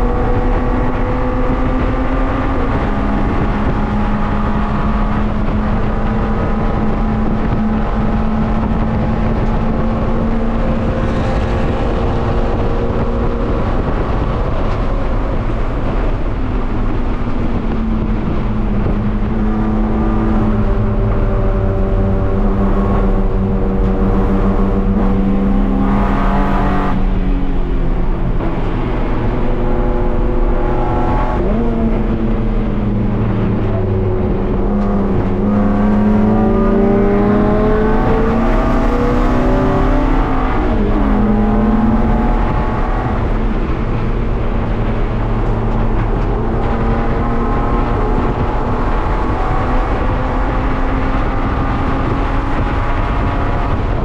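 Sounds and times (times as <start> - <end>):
race car engine revving: 0.0 - 54.0
road and wind noise: 0.0 - 54.0.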